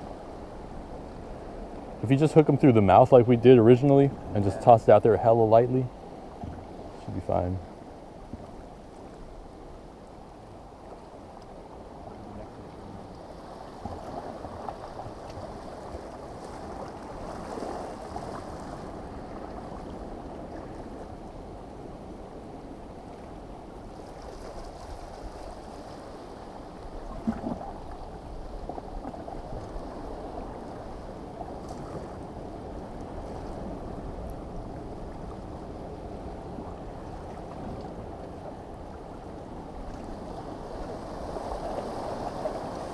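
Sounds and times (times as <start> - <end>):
muffled water lapping: 0.0 - 42.9.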